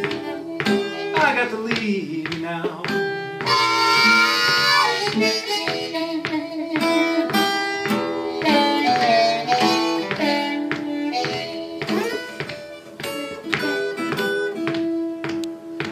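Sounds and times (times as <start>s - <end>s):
blues harmonica: 0.0s - 1.8s, 2.9s - 15.9s
strummed acoustic guitar: 0.0s - 15.9s.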